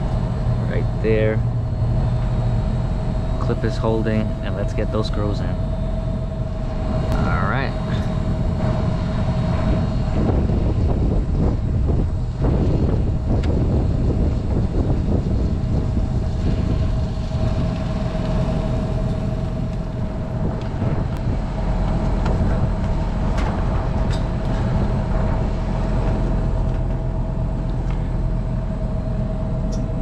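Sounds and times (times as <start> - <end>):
low machinery drone: 0.0 - 30.0
mid-pitched whine: 0.0 - 30.0.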